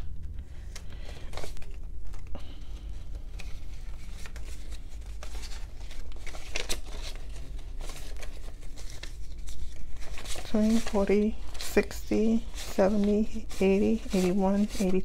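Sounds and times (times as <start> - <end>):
banknotes rustling and crackling: 0.3 - 15.0.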